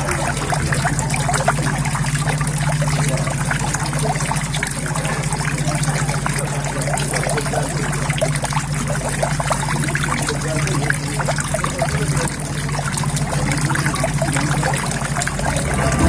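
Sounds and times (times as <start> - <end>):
water trickling into pond: 0.0 - 16.0.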